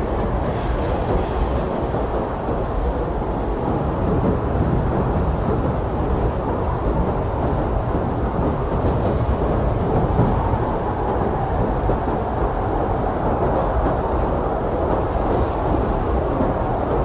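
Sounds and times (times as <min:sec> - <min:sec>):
blizzard wind blowing hard: 0:00.0 - 0:17.0.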